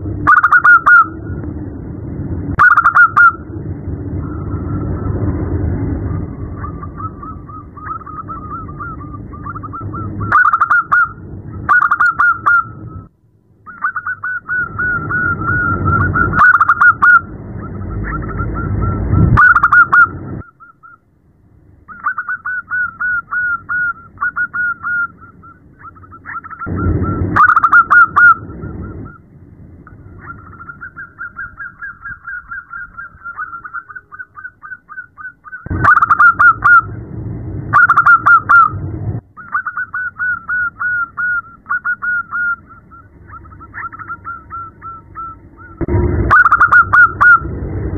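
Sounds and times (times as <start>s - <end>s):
dove cooing: 0.3s - 1.2s, 2.6s - 3.4s, 6.5s - 13.1s, 13.7s - 21.0s, 21.9s - 29.2s, 29.9s - 36.9s, 37.7s - 38.8s, 39.4s - 47.5s.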